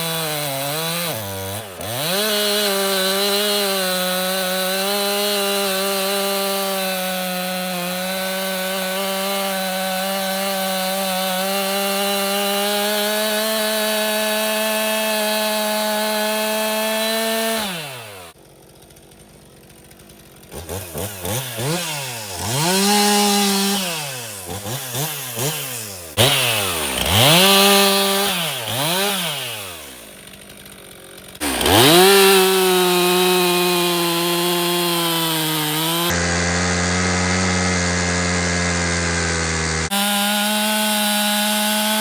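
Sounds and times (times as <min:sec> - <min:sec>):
chainsaw engine revving: 0:00.0 - 0:42.0.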